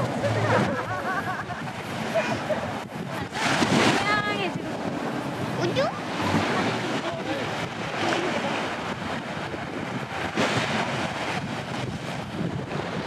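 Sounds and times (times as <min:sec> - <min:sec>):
sea waves breaking on beach: 0:00.0 - 0:13.0
wind buffeting microphone: 0:00.0 - 0:13.0.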